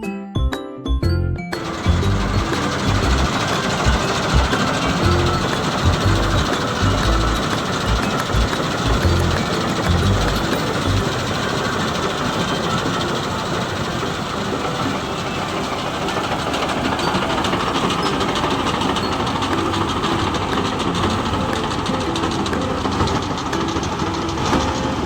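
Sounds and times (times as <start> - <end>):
combine harvester and machine running: 1.5 - 25.0.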